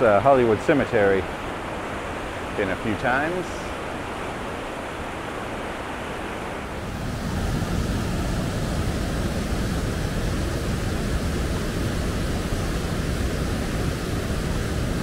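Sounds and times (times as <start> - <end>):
river rushing through rapids: 0.0 - 15.0.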